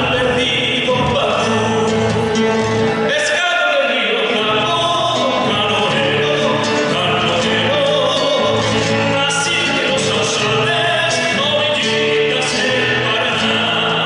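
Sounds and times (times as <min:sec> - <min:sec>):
music with sung voices: 0:00.0 - 0:14.0.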